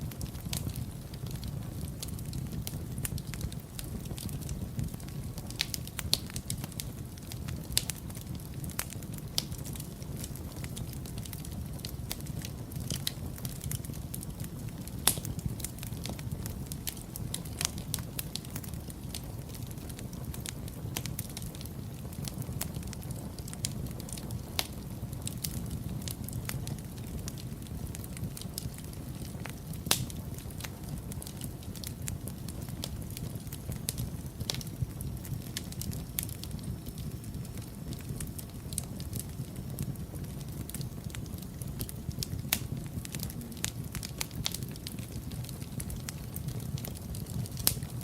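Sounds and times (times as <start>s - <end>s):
wood fire burning: 0.0s - 48.0s.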